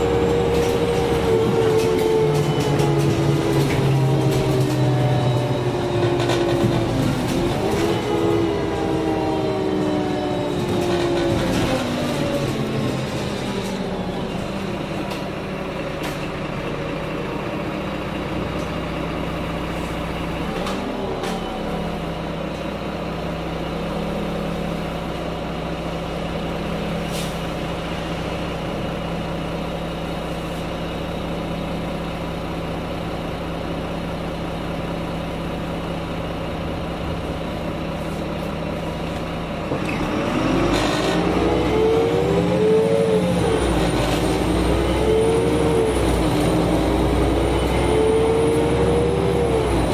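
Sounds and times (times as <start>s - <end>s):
bus diesel engine: 0.0s - 49.9s.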